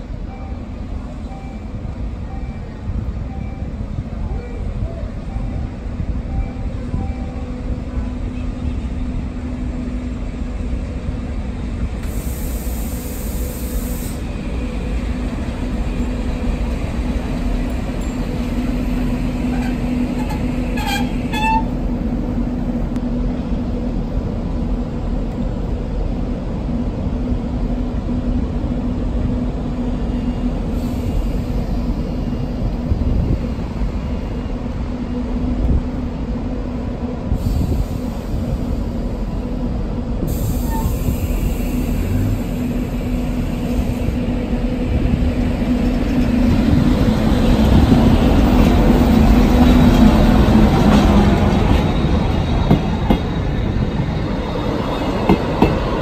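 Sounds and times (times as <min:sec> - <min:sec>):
electric locomotive humming: 0:00.0 - 0:56.0.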